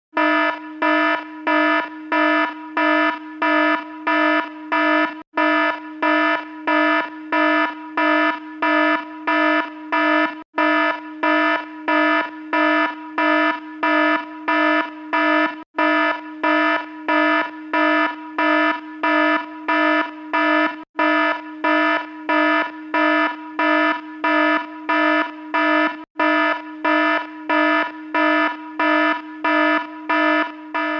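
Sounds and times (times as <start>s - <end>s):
alarm beeping: 0.1s - 30.9s.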